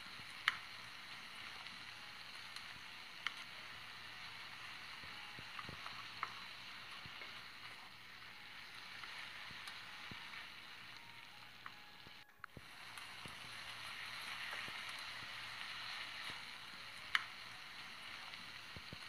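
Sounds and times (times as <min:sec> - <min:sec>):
food sizzling in oil: 0:00.0 - 0:19.0
oil popping and ticking: 0:00.0 - 0:19.0.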